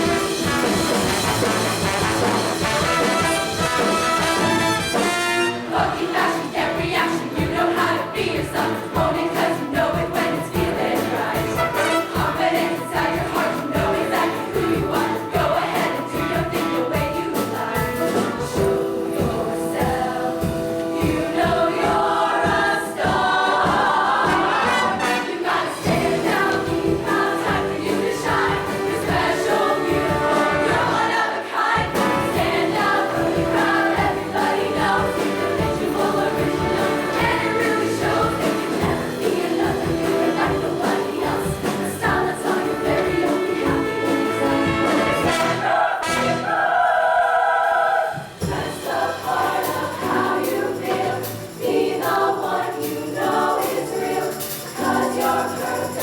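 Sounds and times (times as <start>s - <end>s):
band accompaniment with steady beat: 0.0s - 47.0s
choir singing in harmony: 0.0s - 56.0s.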